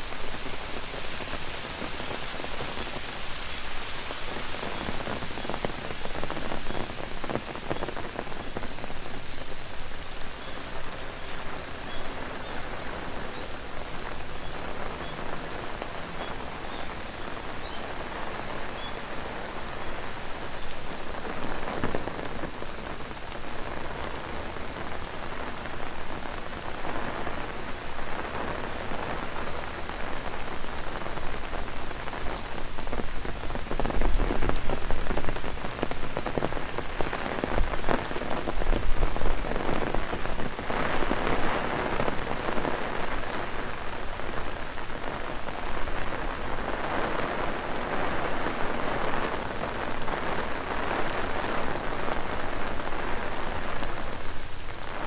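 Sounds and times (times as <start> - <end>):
cicadas droning: 0.0 - 55.0
rain pattering on an umbrella: 0.0 - 55.0.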